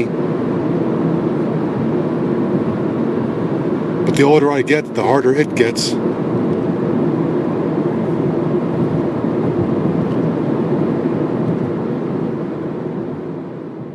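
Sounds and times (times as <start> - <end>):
vehicle noise low rush: 0.0 - 13.9.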